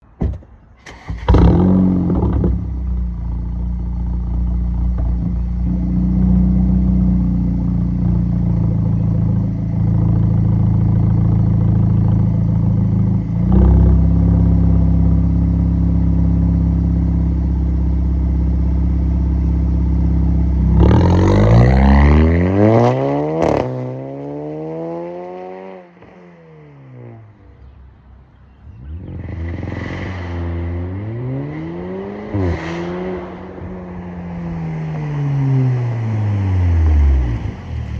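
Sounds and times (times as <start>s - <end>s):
car engine droning and revving: 0.8s - 37.9s.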